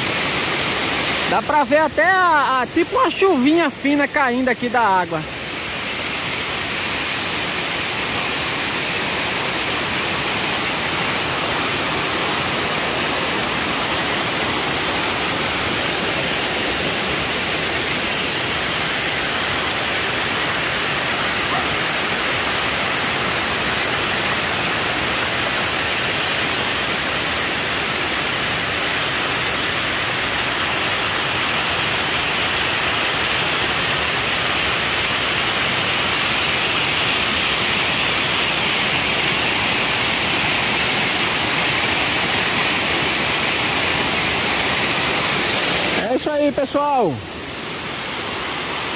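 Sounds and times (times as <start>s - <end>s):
waterfall rushing into a pool: 0.0s - 48.9s.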